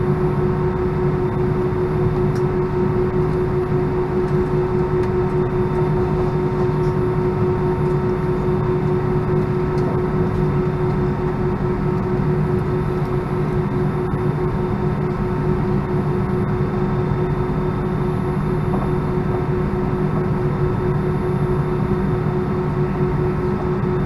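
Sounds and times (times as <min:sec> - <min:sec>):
aircraft cabin engine rumble: 0:00.0 - 0:24.0.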